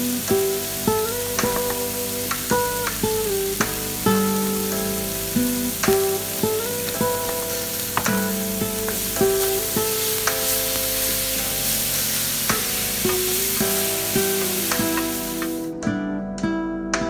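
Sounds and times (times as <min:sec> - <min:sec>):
tomatoes sizzling in a pan: 0:00.0 - 0:15.8
acoustic guitar music: 0:00.0 - 0:17.0.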